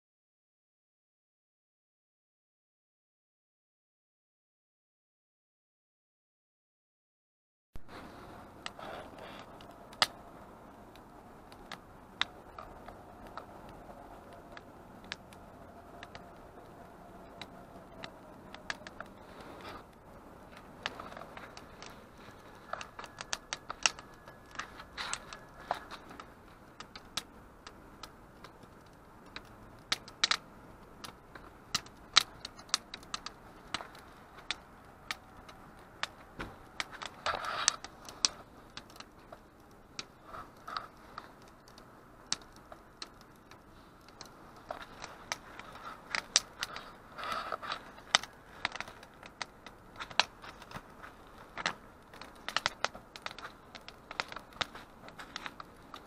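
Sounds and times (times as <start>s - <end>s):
campfire crackling and popping: 7.8s - 56.0s.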